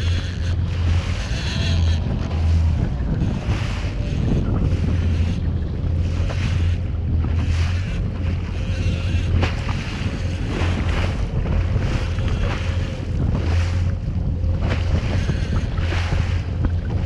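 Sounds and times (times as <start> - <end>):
constant low rumble: 0.0 - 17.0
sea water slapping hull: 0.0 - 17.0
wind buffeting microphone: 0.0 - 17.0.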